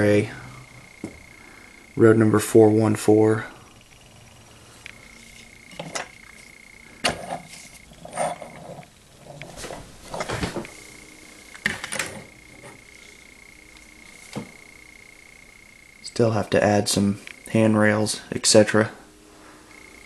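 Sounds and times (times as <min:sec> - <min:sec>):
faint high-pitched whine: 0:00.0 - 0:20.0.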